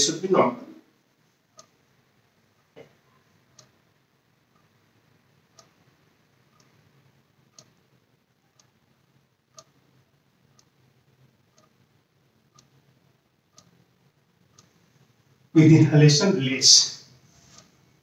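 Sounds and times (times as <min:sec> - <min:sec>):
faint clock ticking: 0:00.0 - 0:15.6, 0:16.4 - 0:18.0
low room hum: 0:00.0 - 0:18.0.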